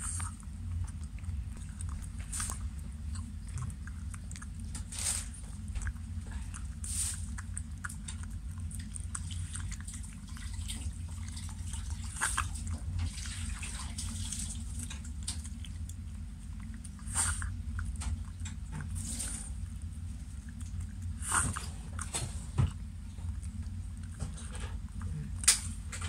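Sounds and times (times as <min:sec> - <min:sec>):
dog licking and chewing: 0:00.0 - 0:26.0
steady low hum: 0:00.0 - 0:26.0.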